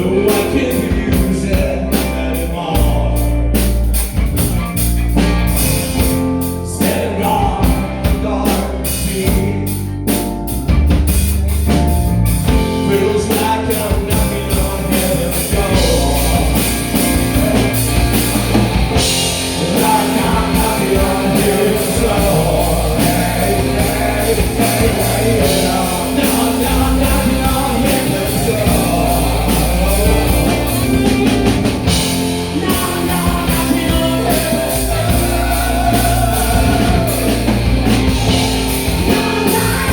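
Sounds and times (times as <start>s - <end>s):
drum kit steady beat: 0.0s - 39.9s
rock band playing: 0.0s - 39.9s.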